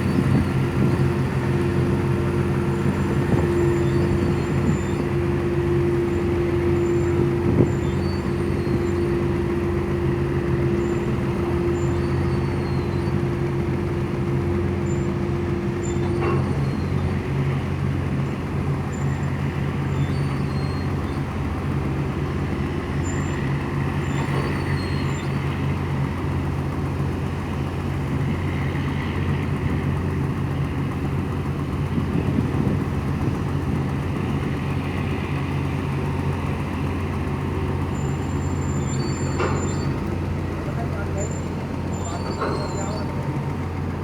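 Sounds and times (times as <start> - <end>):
diesel engine drone: 0.0 - 44.0.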